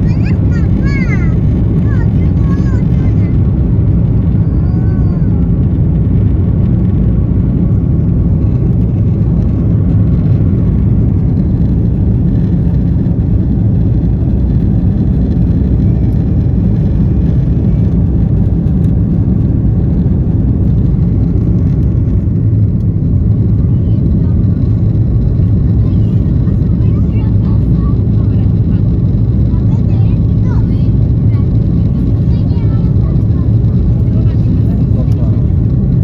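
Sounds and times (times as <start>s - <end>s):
airflow around fuselage: 0.0s - 36.0s
jet engines rumbling in cabin: 0.0s - 36.0s.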